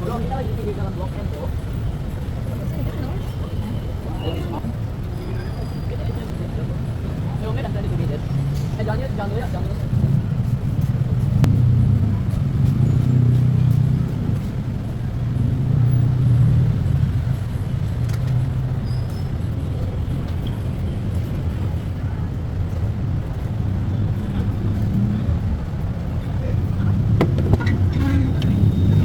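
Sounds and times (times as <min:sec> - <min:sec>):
passing vehicles rumbling: 0:00.0 - 0:29.0.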